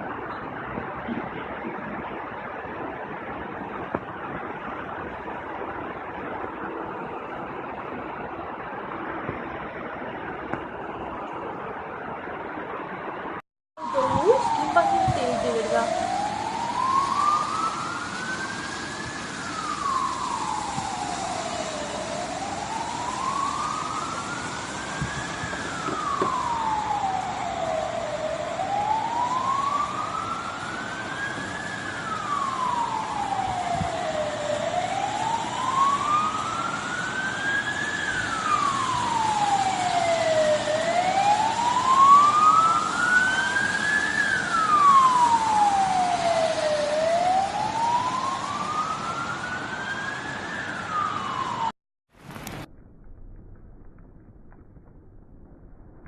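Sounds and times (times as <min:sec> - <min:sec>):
siren wailing: 0:00.0 - 0:51.8
background rush of noise: 0:00.0 - 0:52.9.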